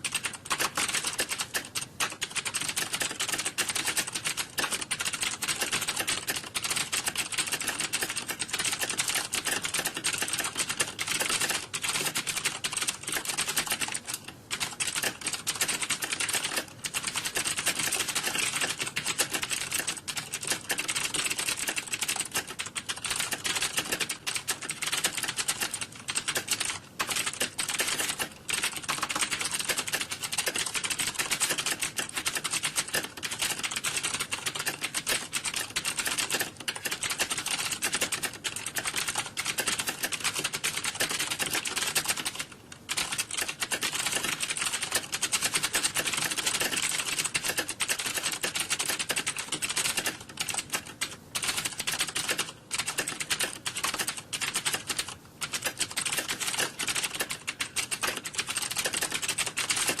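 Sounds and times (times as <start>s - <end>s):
fast keyboard typing: 0.0s - 60.0s.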